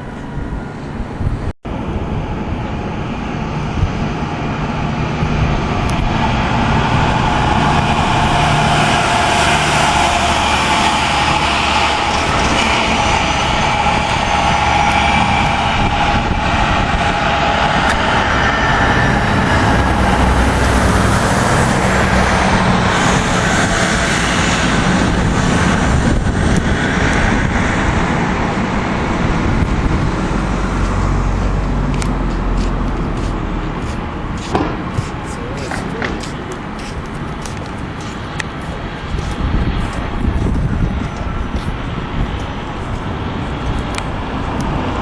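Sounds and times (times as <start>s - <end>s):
road traffic noise: 0.0s - 45.0s.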